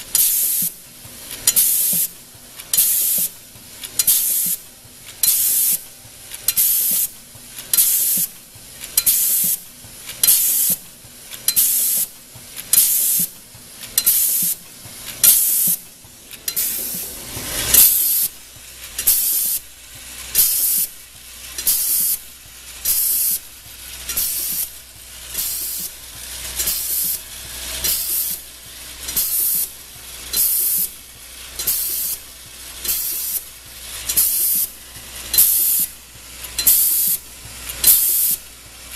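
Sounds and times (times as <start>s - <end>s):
crimping machine sharp hiss: 0.0s - 38.9s.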